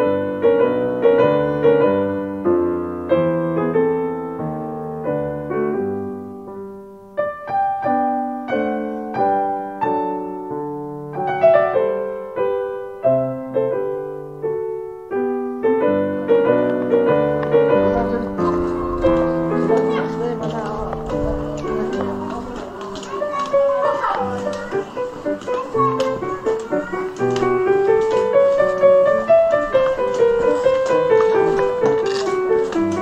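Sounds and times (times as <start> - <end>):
piano melody over chords: 0.0 - 33.0.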